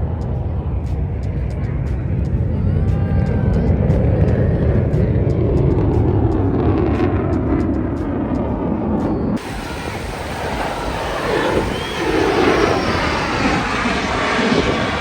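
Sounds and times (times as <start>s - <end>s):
airplane flying over: 0.0s - 15.0s.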